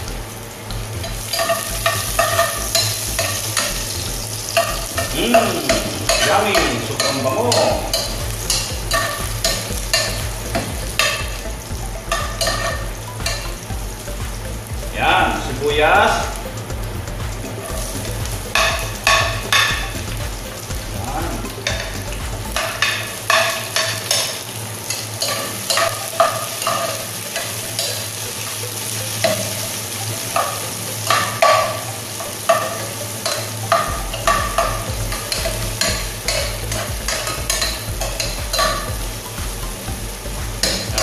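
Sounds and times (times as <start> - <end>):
garlic and onion sizzling in oil: 0.0 - 16.7, 17.3 - 41.0.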